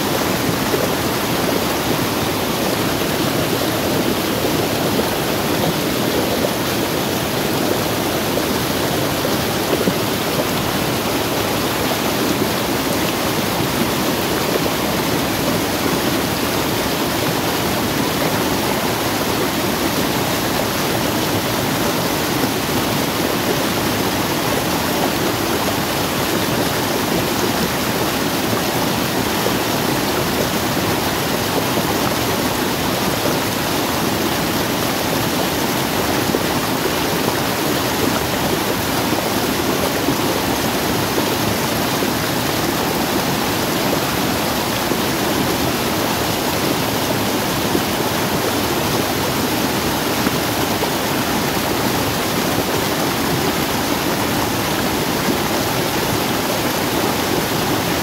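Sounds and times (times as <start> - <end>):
stream roaring over rocky cascade: 0.0 - 58.0.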